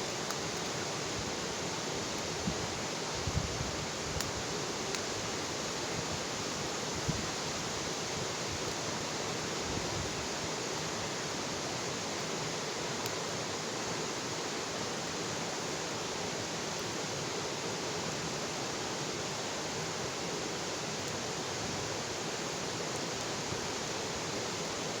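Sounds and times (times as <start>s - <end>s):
bonfire hissing: 0.0s - 25.0s.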